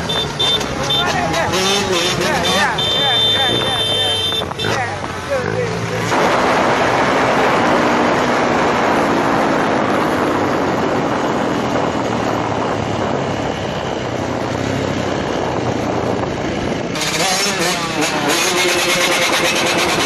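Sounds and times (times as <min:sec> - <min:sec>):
loud vehicle noise: 0:00.0 - 0:20.0.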